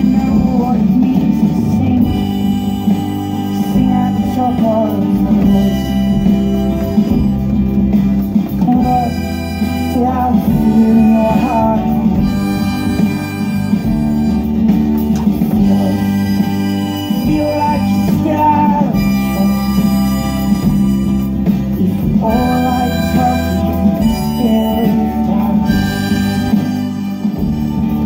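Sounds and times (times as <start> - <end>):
backing music with guitar: 0.0 - 28.0
harmonica playing: 0.0 - 28.0.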